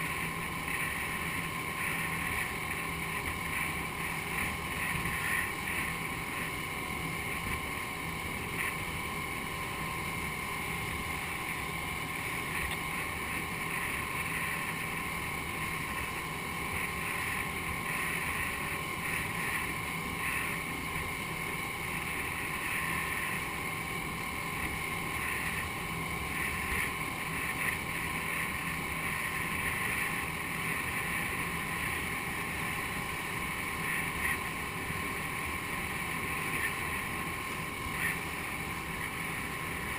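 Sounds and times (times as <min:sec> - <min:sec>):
outboard motor running: 0:00.0 - 0:39.9
wind: 0:00.0 - 0:39.9.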